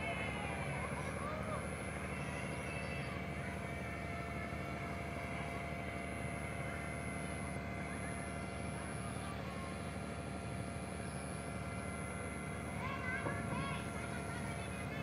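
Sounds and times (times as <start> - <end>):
faint whining tones: 0.0 - 15.0
ship engines droning: 0.0 - 15.0.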